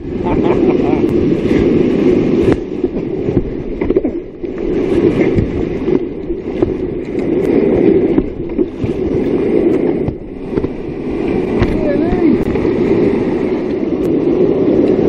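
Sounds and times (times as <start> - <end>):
paddle strokes splashing: 0.0 - 15.0
whitewater rushing: 0.0 - 15.0.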